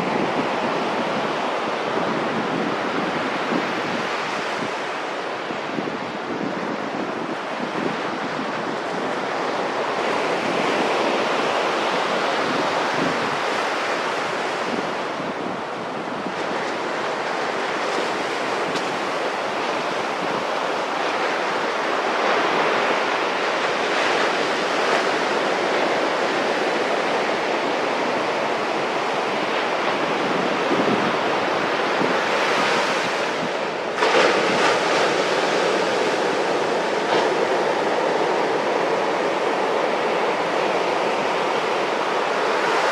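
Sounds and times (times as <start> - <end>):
waves breaking on a beach: 0.0 - 42.9
wind buffeting the microphone: 0.0 - 42.9.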